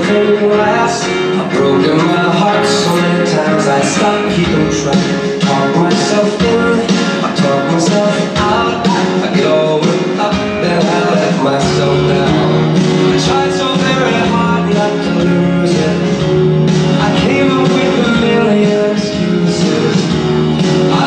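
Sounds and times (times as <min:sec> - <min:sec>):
foxtrot dance music: 0:00.0 - 0:21.0.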